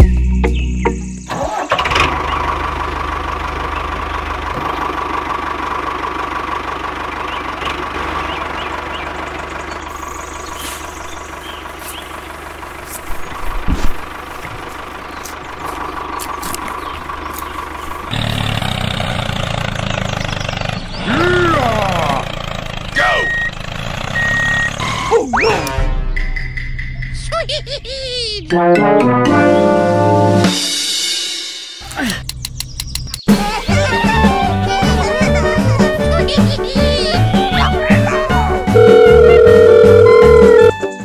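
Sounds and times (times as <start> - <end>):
engine running: 0.0 - 25.9, 31.8 - 41.0.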